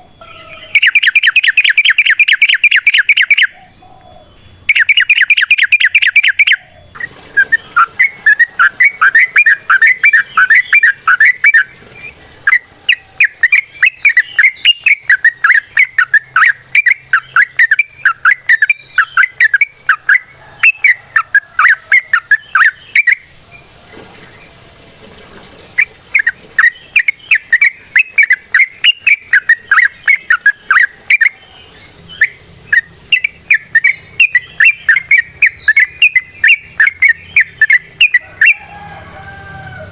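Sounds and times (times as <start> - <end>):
bulbul singing bubbly chirps: 0.0 - 24.9, 25.7 - 38.7.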